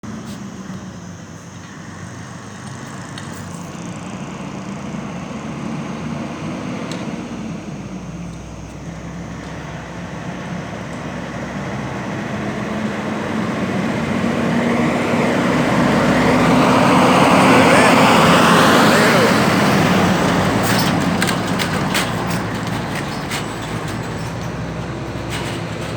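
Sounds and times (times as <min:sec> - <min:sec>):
heavy truck engine approaching: 0:00.0 - 0:25.9.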